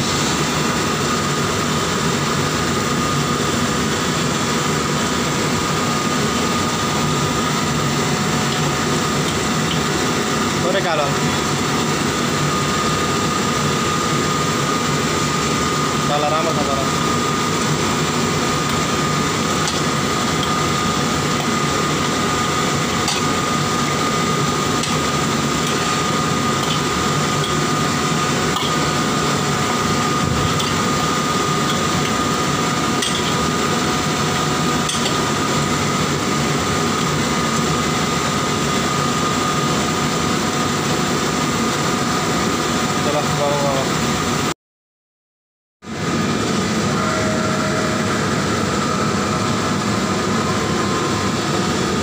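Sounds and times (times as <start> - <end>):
high whine: 0.0 - 41.4, 45.8 - 52.0
gas burner and ventilation rushing: 0.0 - 44.5, 45.8 - 52.0.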